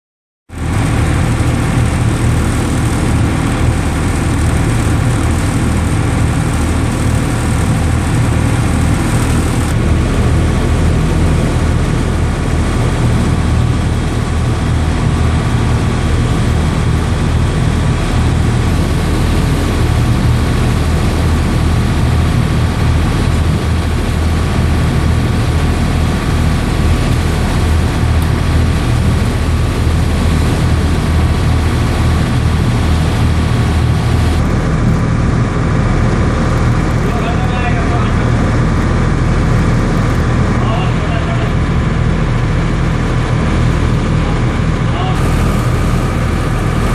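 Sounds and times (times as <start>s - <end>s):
boat engine droning: 0.5s - 46.9s.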